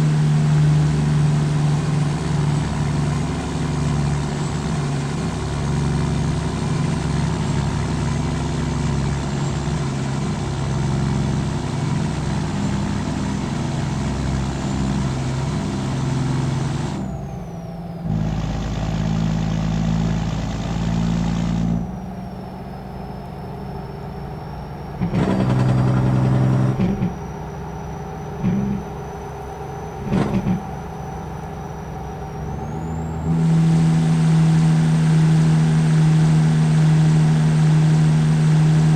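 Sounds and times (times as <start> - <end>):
truck diesel engine: 0.0 - 38.9.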